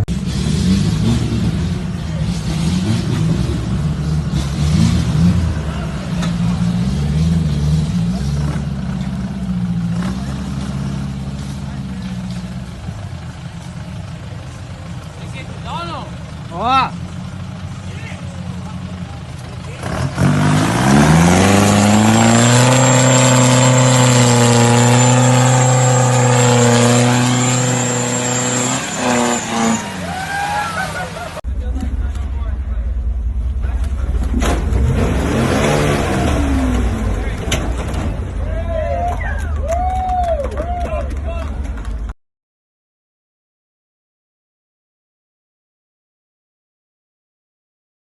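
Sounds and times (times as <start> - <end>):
off-road vehicle engine running: 0.0 - 42.2.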